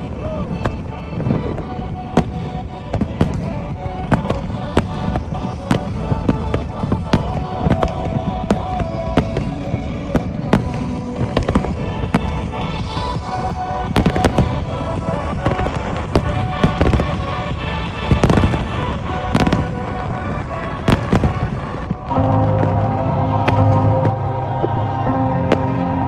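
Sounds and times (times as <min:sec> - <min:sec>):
fireworks bangs and crackling pops: 0:00.0 - 0:26.0
music playing: 0:00.0 - 0:26.0.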